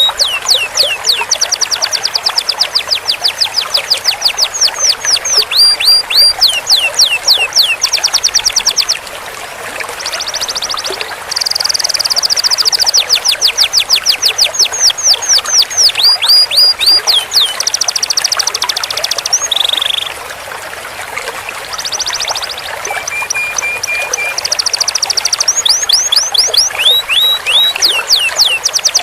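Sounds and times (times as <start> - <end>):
canary singing: 0.0 - 9.0, 10.0 - 20.1, 21.8 - 29.0.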